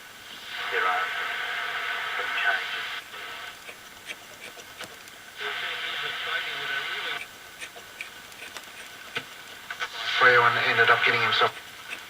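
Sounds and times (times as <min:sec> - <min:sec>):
muffled radio station audio: 0:00.0 - 0:12.0
radio static hiss and crackle: 0:00.0 - 0:12.0.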